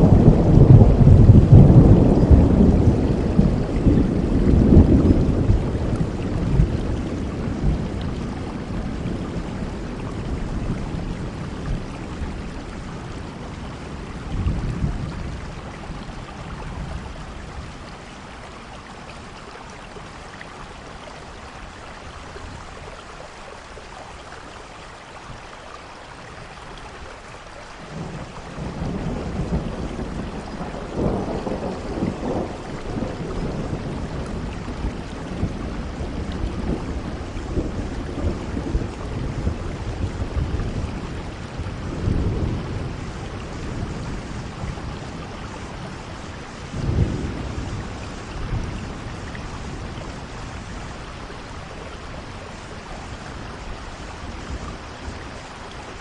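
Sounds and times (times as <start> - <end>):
rolling thunder: 0.0 - 18.0, 27.8 - 55.8
steady rain falling: 0.0 - 56.0.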